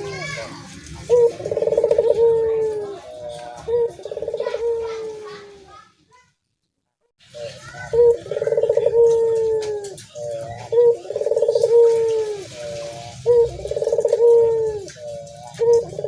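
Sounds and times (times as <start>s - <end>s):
dove cooing: 0.0s - 5.8s, 7.3s - 16.0s.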